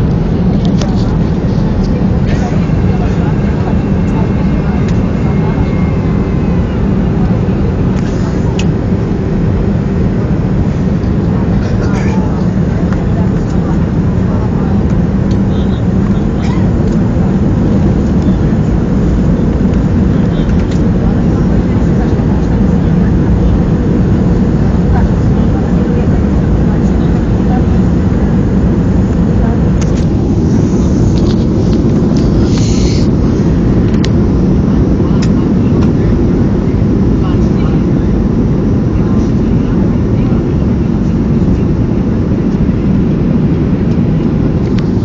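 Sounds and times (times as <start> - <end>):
airflow over fuselage: 0.0 - 45.0
jet engine rumble: 0.0 - 45.0.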